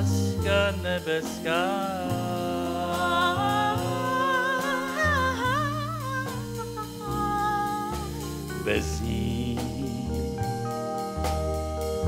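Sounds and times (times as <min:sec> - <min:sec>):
wordless singing: 0:00.0 - 0:10.3
jazz band playing slow ballad: 0:00.0 - 0:12.0.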